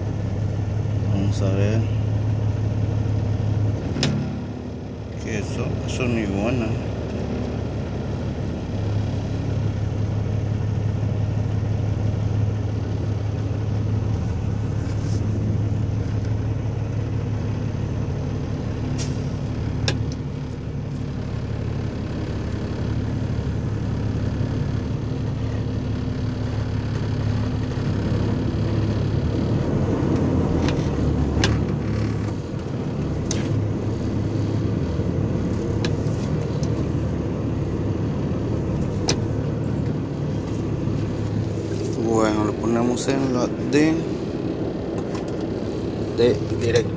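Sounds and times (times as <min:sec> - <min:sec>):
truck engine droning: 0:00.0 - 0:46.9.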